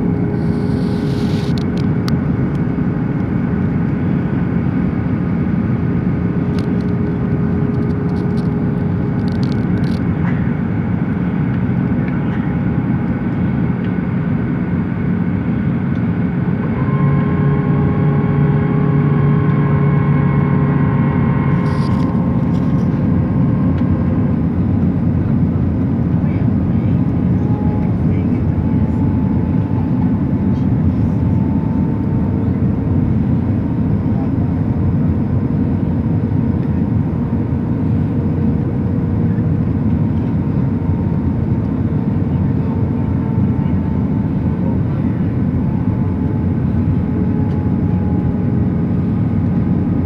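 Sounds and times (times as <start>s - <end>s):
airliner cabin rumble: 0.0s - 50.0s
high engine whine: 0.0s - 50.0s
strong low hum: 0.0s - 50.0s.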